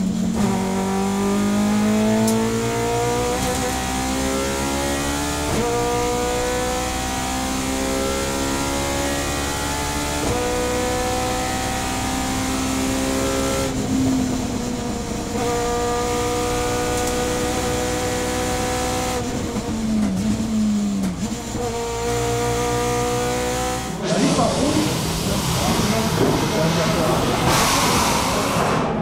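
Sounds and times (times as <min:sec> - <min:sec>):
race car engine under throttle: 0:00.0 - 0:29.0.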